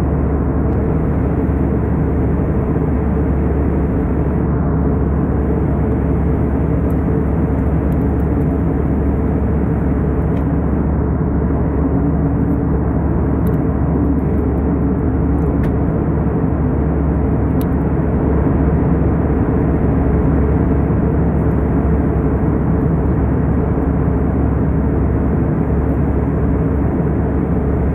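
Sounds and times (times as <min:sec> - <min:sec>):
airliner cabin engine rush: 0:00.0 - 0:27.9.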